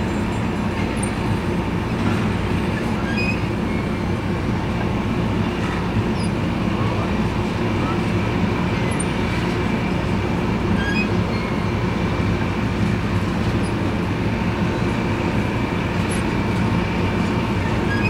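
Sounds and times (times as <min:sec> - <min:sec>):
train rumble and hum: 0:00.0 - 0:18.0.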